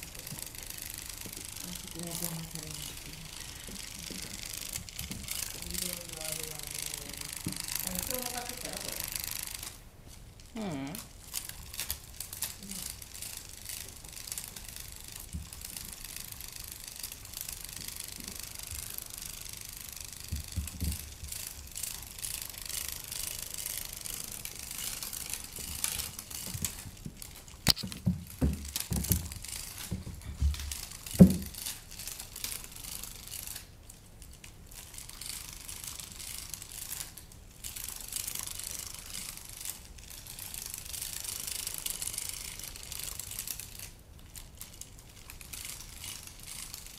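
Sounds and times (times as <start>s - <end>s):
cat toy crinkly rattle: 0.0s - 46.9s.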